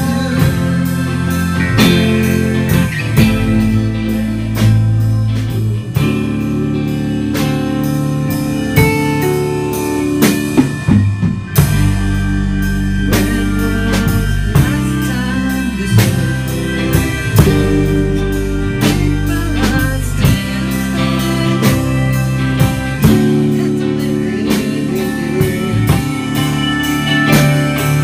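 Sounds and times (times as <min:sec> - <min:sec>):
drum kit steady beat: 0:00.0 - 0:28.0
rock band playing: 0:00.0 - 0:28.0.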